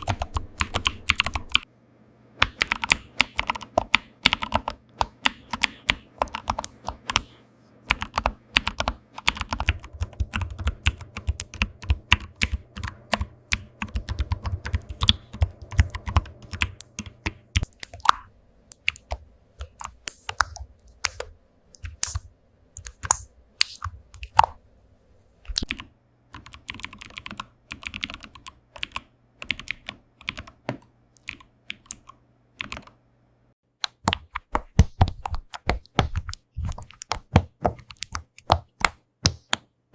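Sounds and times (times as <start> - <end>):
computer keyboard typing: 0.0 - 1.7, 2.4 - 24.6, 25.5 - 33.0, 33.8 - 39.7
faint low hum: 0.0 - 33.6.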